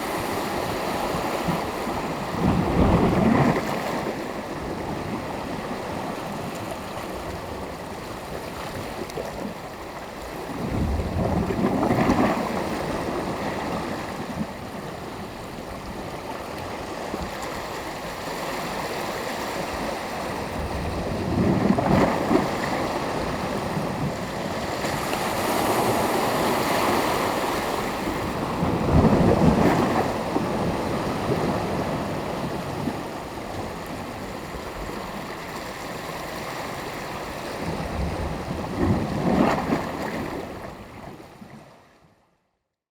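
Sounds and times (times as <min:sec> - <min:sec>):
sea waves breaking on shore: 0:00.0 - 0:42.0.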